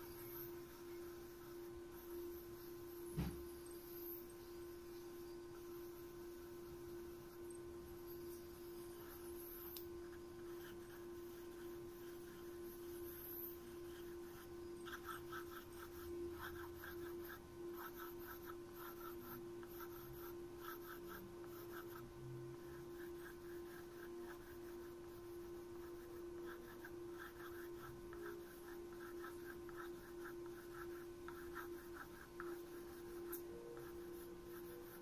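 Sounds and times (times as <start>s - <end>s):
pen scratching on paper: 0.0s - 4.4s, 5.2s - 35.0s
faint steady hum: 0.0s - 35.0s.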